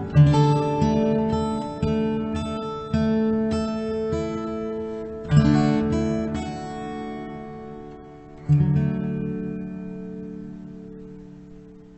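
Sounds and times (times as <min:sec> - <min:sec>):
acoustic guitar chords strummed: 0:00.0 - 0:11.9.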